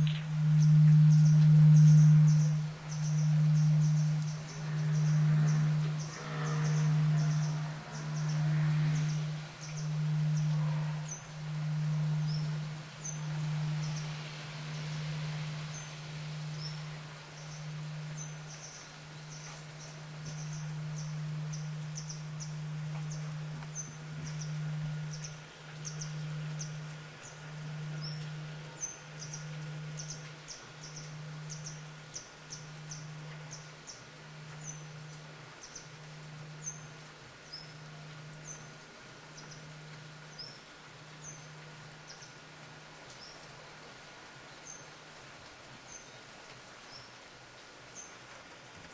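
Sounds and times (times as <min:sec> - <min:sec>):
temple bell humming: 0:00.0 - 0:43.3
small birds chirping: 0:00.0 - 0:43.8, 0:44.4 - 0:45.0.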